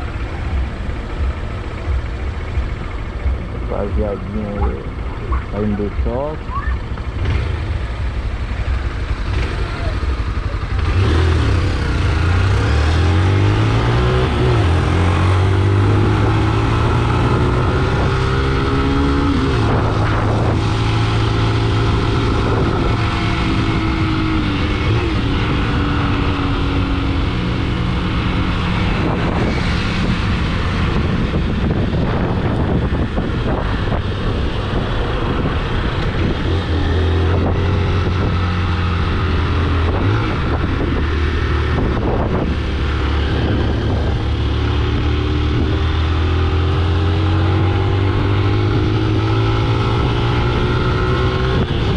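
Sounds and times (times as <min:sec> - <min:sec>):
road and wind noise: 0:00.0 - 0:51.9
vehicle engine accelerating: 0:00.0 - 0:51.9.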